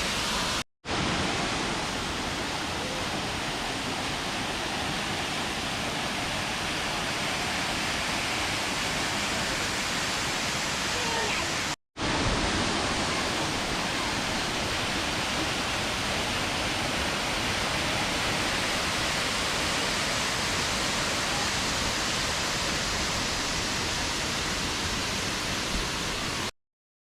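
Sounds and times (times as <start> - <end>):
waterfall rushing: 0.0 - 26.5.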